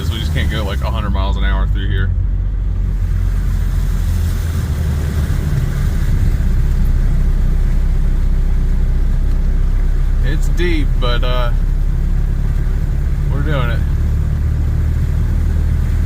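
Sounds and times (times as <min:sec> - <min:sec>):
car engine running slowly: 0:00.0 - 0:16.0
rush of water: 0:00.0 - 0:16.0.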